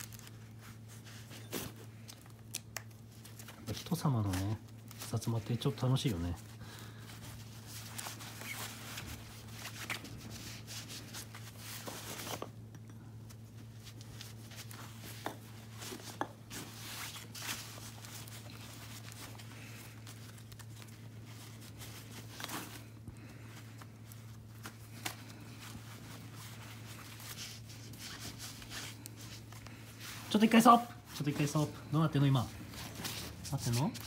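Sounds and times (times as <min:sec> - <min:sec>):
rope rustling and creaking: 0:00.0 - 0:12.6, 0:13.2 - 0:34.0
steady low hum: 0:00.0 - 0:34.0.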